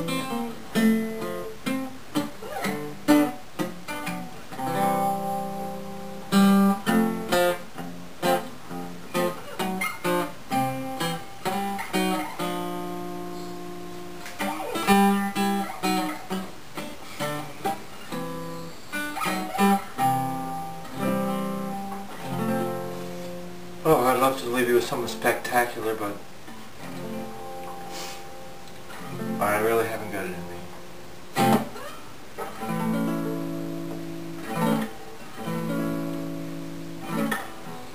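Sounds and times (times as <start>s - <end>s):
acoustic guitar notes and chords: 0.0s - 37.9s.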